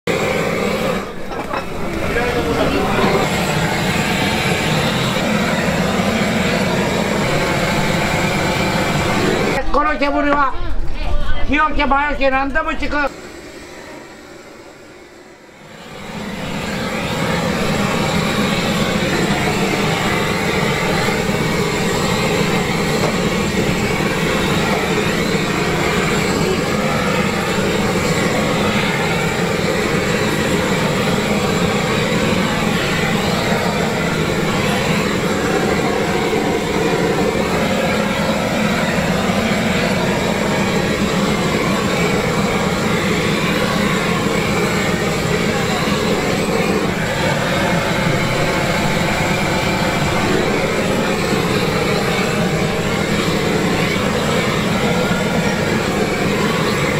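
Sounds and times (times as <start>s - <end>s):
gas blowtorch flame rushing: 0.0s - 9.6s, 13.1s - 56.9s.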